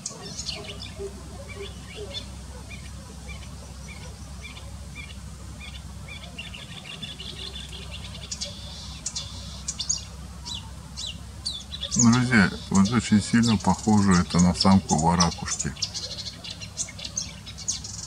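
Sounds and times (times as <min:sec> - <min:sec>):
warbler singing: 0:00.0 - 0:18.0.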